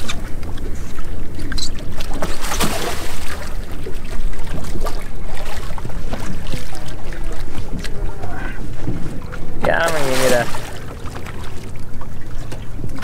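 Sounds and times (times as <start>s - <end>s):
fish splashing in water: 0.0s - 13.0s.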